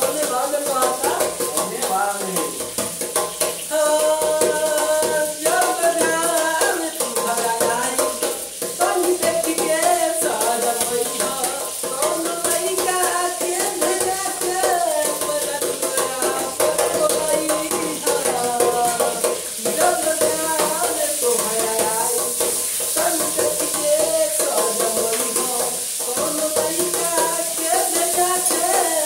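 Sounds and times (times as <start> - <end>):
man singing folk song: 0.0 - 2.8, 3.7 - 29.0
hands drumming on steel container: 0.0 - 29.0.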